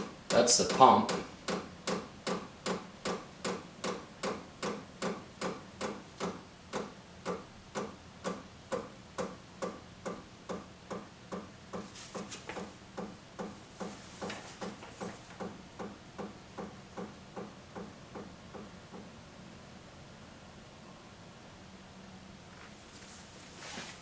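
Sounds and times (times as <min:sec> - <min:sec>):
blower fan humming: 0:00.0 - 0:24.0.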